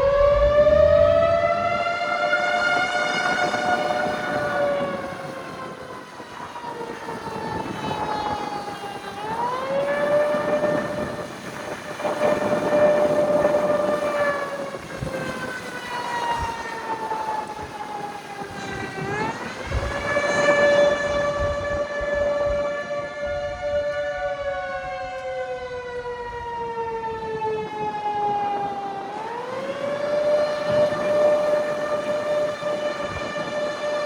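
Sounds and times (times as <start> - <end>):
mechanical warning siren: 0.0 - 34.0.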